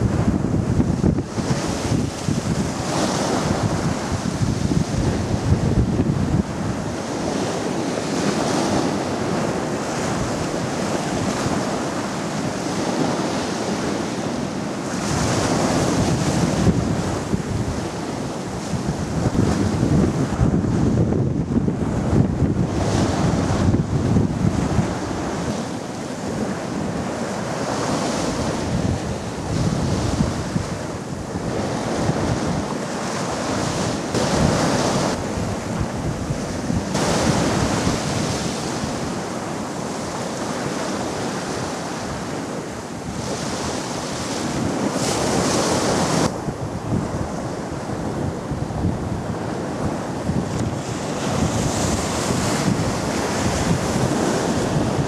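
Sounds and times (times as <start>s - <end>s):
choppy sea waves breaking: 0.0s - 55.0s
wind rumbling on microphone: 0.0s - 55.0s.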